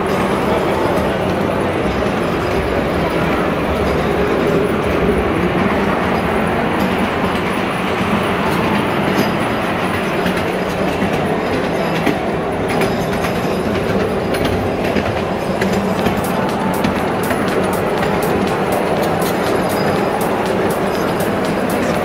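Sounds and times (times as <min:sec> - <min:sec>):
train running on rails: 0:00.0 - 0:22.0.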